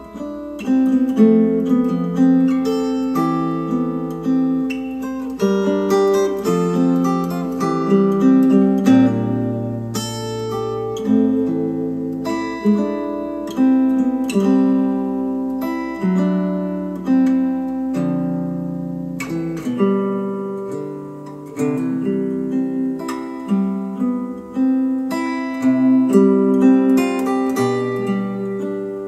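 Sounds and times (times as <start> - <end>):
plucked acoustic guitar music: 0.0 - 29.0.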